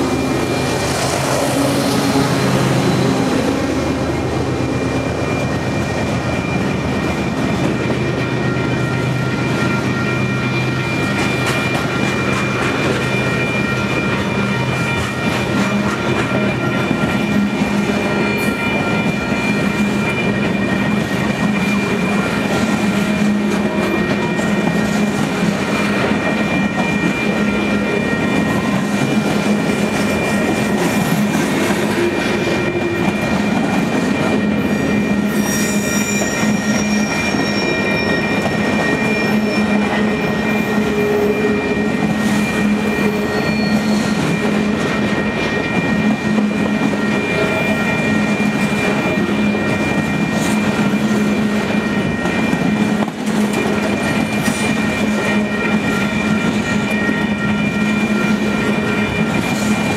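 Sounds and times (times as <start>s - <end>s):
high wheel squeals: 0.0s - 59.9s
train wheels rumbling on rails: 0.0s - 59.9s.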